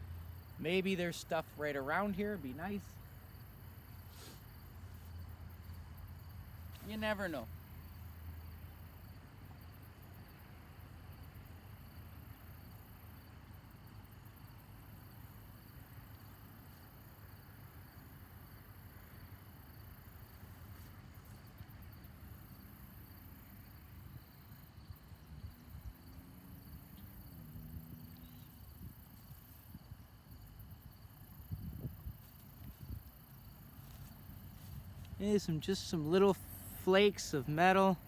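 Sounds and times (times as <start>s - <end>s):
faint outdoor background noise: 0.0s - 38.0s.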